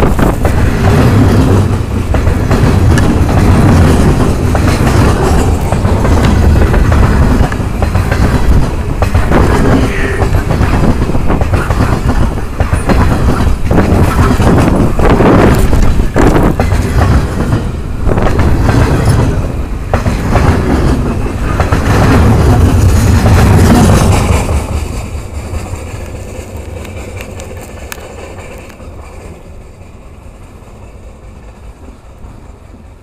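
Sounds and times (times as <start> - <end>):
freight train rolling past: 0.0 - 33.0
wheels clacking over rail joints: 0.0 - 33.0.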